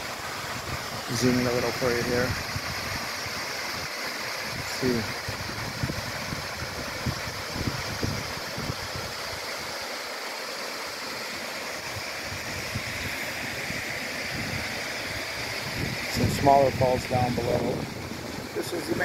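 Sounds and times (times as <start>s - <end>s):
waterfall rushing: 0.0s - 19.0s
wind rumbling on microphone: 0.5s - 9.5s, 11.8s - 19.0s.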